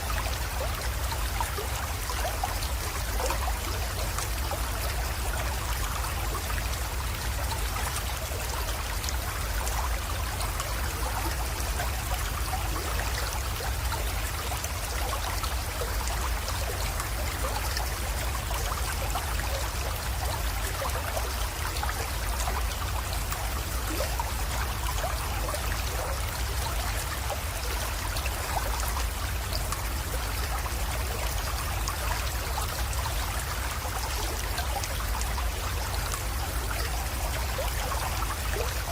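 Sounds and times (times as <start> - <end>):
creek water trickling over stones: 0.0 - 38.9.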